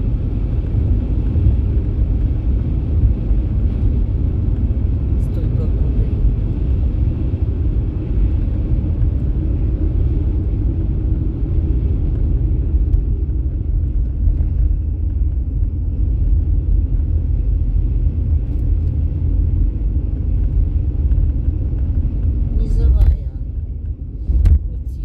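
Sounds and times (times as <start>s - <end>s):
car cabin road and engine rumble: 0.0s - 25.0s.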